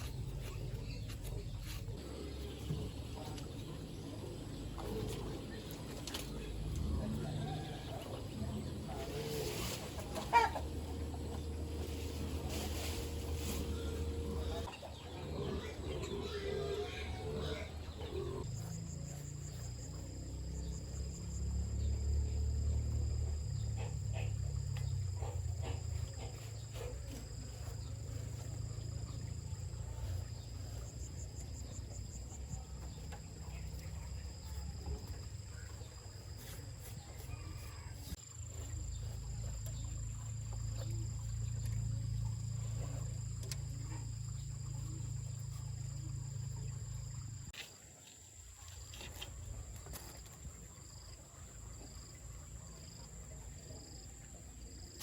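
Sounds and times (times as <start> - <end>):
insects chirping: 5.4 - 55.0.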